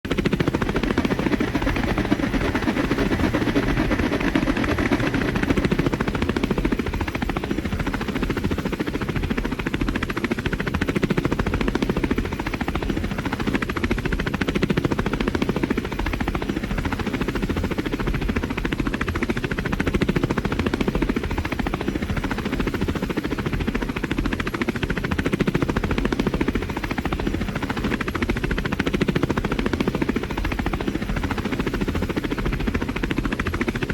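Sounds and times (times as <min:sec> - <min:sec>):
helicopter rotor blades chopping: 0:00.1 - 0:33.9.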